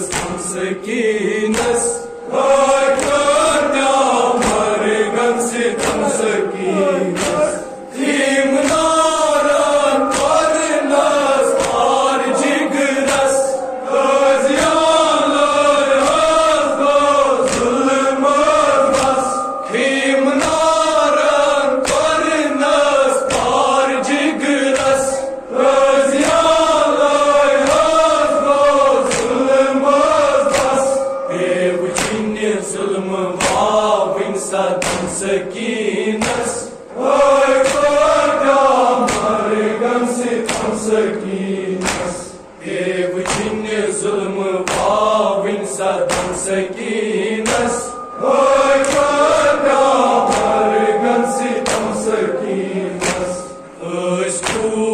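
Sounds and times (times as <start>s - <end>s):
sharp beats: 0.0s - 43.9s, 44.5s - 54.9s
group chanting in unison: 0.0s - 54.9s.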